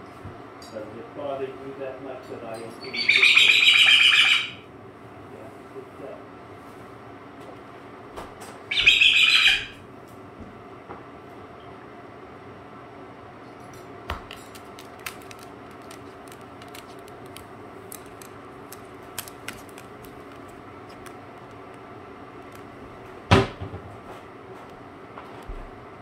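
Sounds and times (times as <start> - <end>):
low household hum: 0.0 - 26.0.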